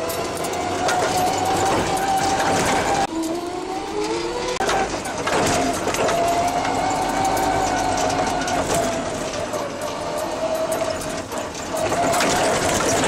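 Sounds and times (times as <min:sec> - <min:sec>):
forklift whine and rumble: 0:00.0 - 0:13.0.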